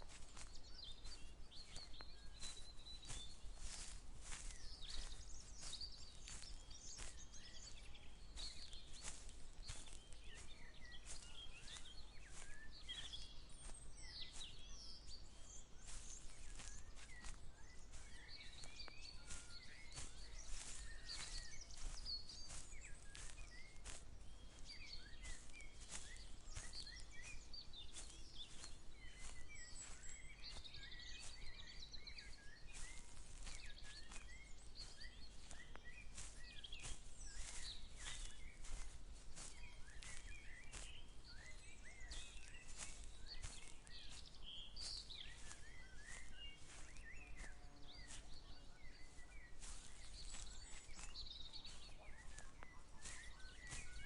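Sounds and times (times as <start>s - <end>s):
birds chirping and trilling: 0.0s - 54.0s
footsteps walking: 0.0s - 54.0s.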